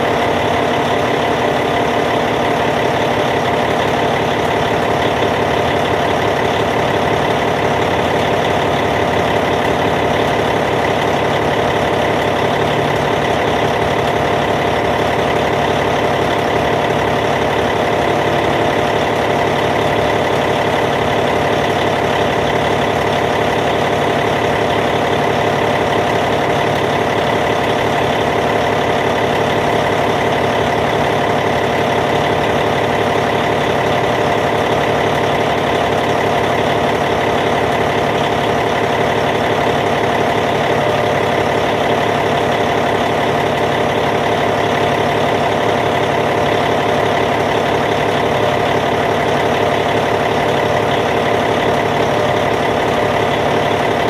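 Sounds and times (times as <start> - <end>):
bulldozer diesel engine idling: 0.0 - 54.0.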